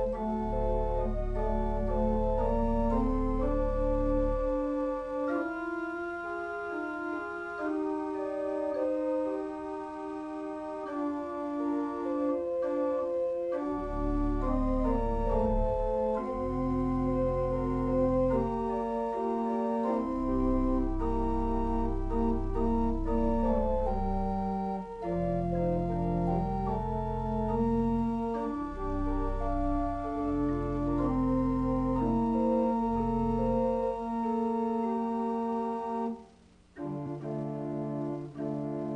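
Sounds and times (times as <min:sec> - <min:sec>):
organ playing slow chords: 0:00.0 - 0:38.9.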